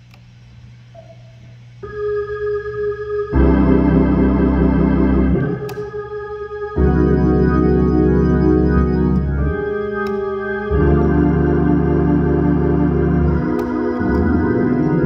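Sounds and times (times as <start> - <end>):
organ playing chords: 0.8 - 15.0.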